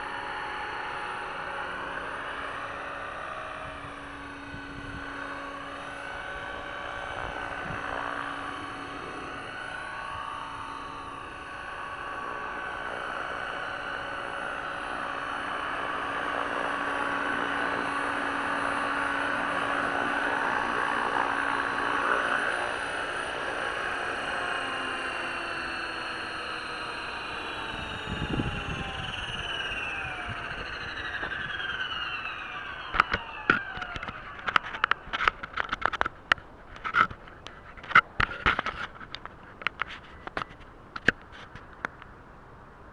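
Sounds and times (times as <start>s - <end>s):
model helicopter rotor whining: 0.0s - 42.1s.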